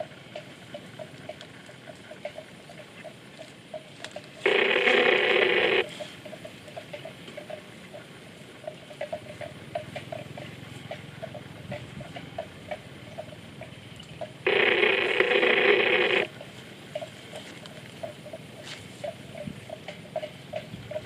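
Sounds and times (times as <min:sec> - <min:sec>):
grass being cropped and chewed: 0:00.0 - 0:13.4, 0:15.8 - 0:21.0
loud steady ringing tone: 0:00.0 - 0:21.0.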